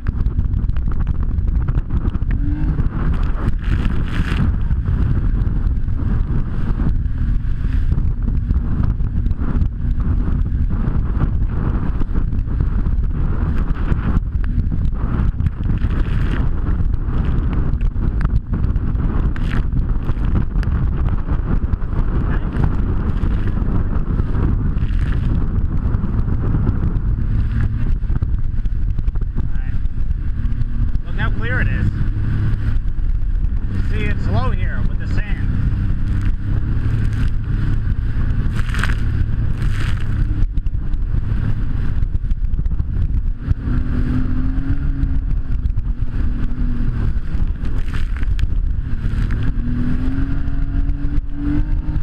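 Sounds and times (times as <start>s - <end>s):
jet ski engine rumble: 0.0s - 52.0s
wind buffeting microphone: 0.0s - 52.0s.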